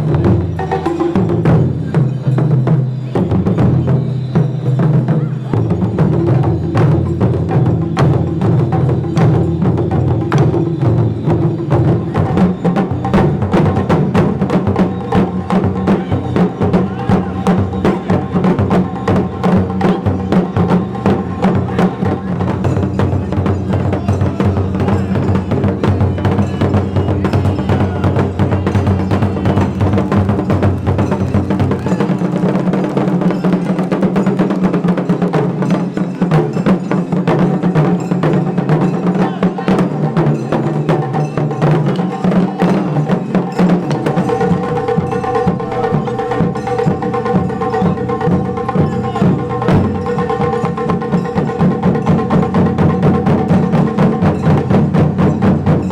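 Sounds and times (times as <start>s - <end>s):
rapid percussion strikes: 0.0s - 55.9s.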